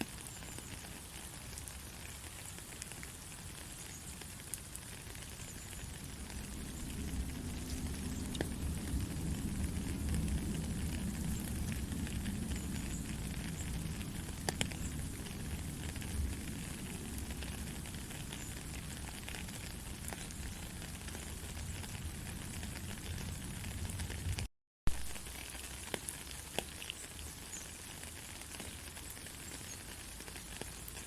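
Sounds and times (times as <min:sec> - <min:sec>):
gentle rain falling: 0:00.0 - 0:31.0.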